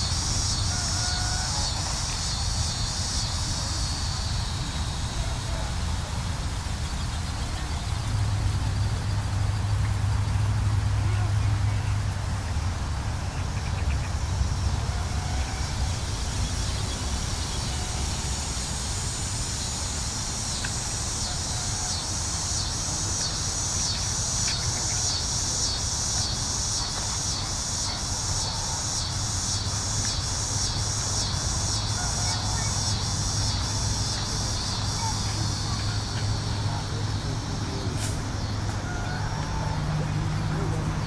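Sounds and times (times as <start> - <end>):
insects pulsing chorus: 0.0 - 41.0.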